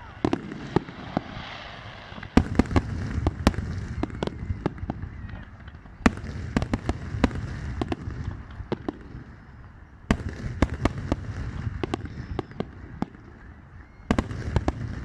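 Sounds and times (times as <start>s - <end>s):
firework bangs: 0.0s - 13.4s, 14.1s - 15.0s.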